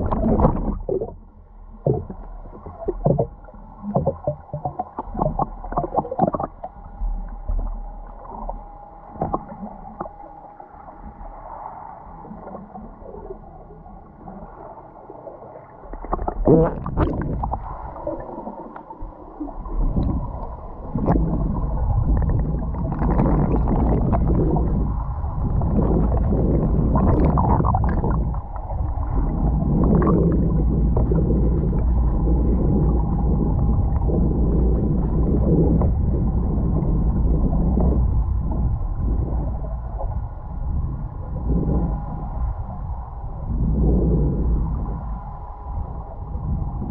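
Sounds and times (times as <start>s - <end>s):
muffled underwater water rushing: 0.0s - 46.9s.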